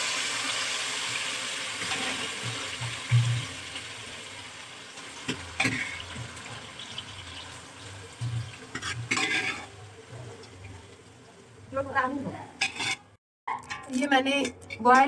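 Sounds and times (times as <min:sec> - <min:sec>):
food sizzling in a frying pan: 0:00.0 - 0:12.9.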